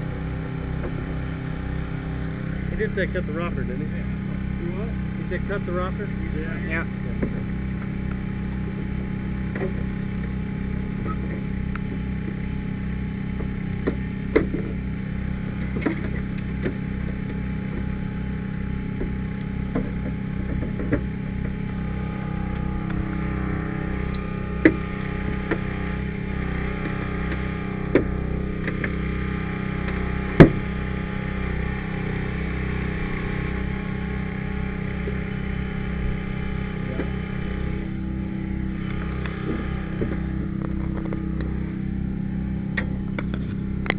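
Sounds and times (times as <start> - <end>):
power unit engine running: 0.0 - 43.9.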